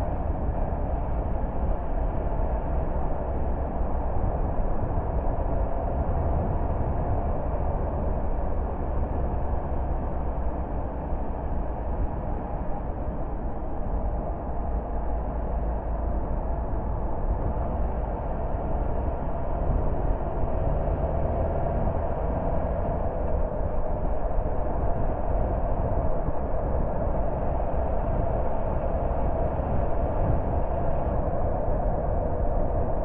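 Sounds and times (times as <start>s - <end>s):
car driving on road: 0.0s - 33.0s.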